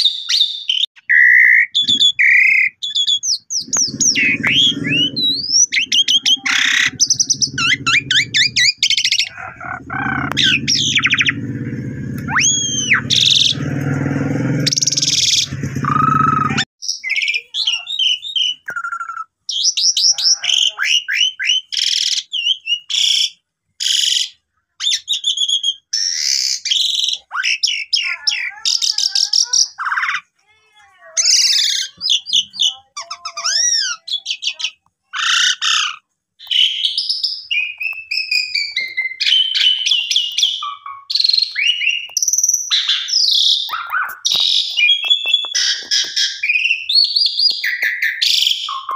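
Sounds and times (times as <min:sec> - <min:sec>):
starling singing: 0:00.9 - 0:30.3, 0:31.2 - 0:48.9.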